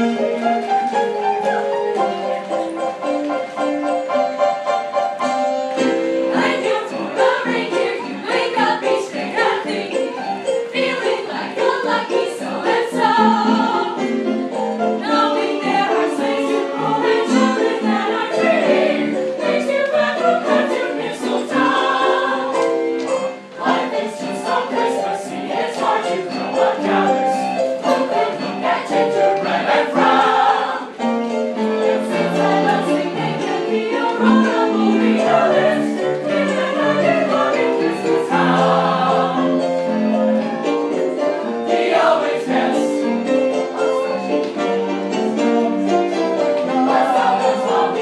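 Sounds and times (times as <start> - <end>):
music with group singing: 0.0 - 48.0.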